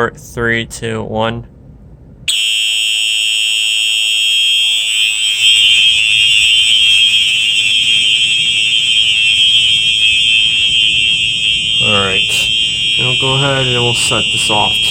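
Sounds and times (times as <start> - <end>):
fire alarm horn buzzing: 2.3 - 14.9.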